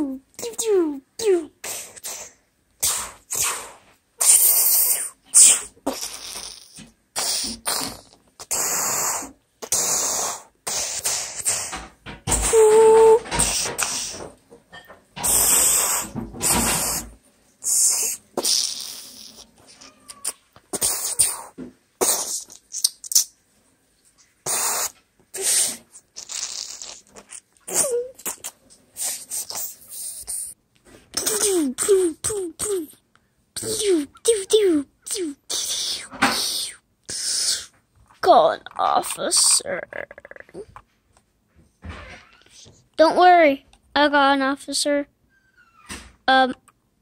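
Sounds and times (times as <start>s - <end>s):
child making mouth sound effects: 0.0s - 14.3s, 15.2s - 23.4s, 24.4s - 33.0s, 33.6s - 40.8s.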